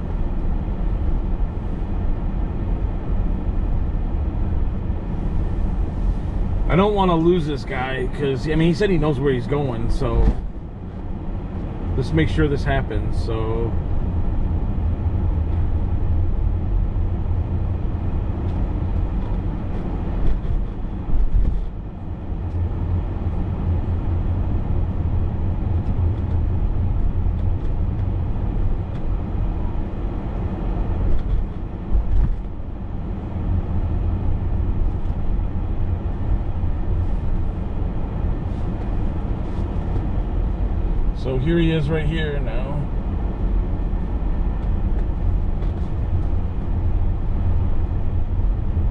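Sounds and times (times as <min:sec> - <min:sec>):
vehicle engine and road rumble: 0:00.0 - 0:48.9.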